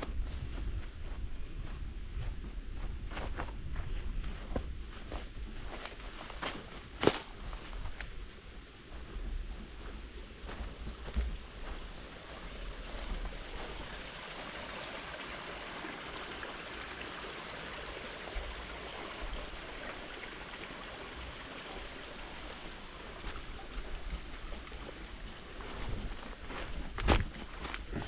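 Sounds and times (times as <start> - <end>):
stream of running water: 5.0 - 28.0.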